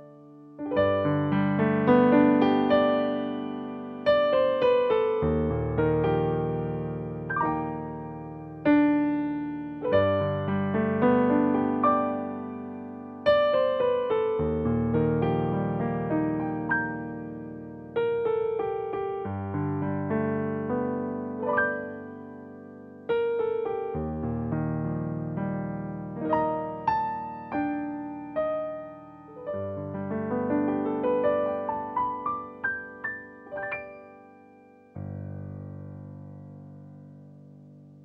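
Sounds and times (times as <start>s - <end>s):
solo piano: 0.0s - 38.0s.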